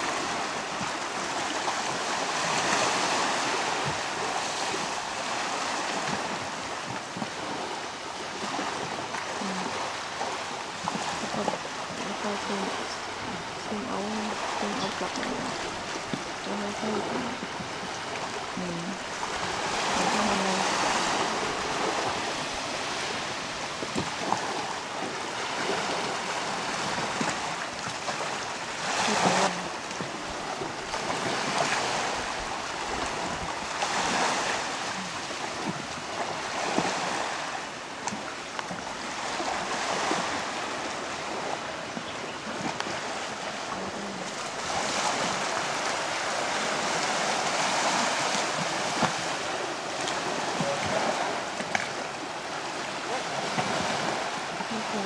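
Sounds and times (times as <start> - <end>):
small sea waves washing ashore: 0.0 - 55.0.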